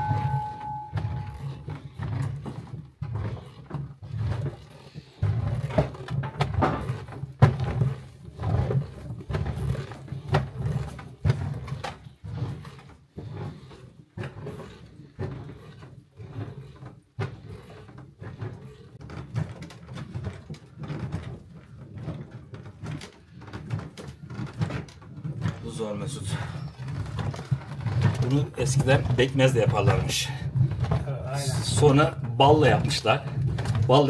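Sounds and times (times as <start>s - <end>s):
wooden paddle beating thick mixture: 0.0s - 34.0s.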